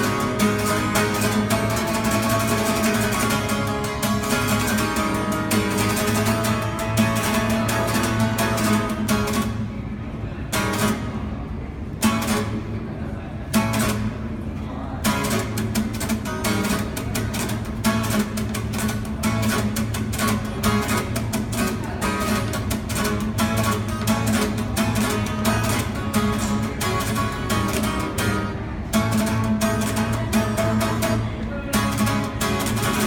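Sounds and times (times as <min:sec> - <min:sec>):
acoustic guitar picked and strummed: 0:00.0 - 0:33.0.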